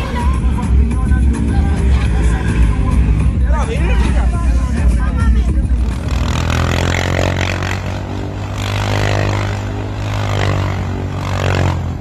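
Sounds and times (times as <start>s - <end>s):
off-road vehicle engine revving hard: 0.0s - 12.0s.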